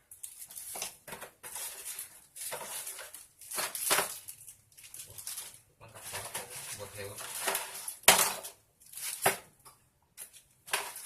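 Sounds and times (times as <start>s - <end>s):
packaging rustling and clattering: 0.1s - 9.6s, 10.2s - 11.0s.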